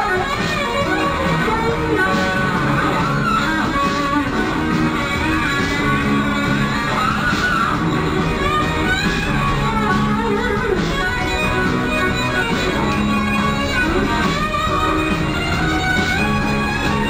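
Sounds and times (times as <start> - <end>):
pop music with guitar: 0.0 - 17.0.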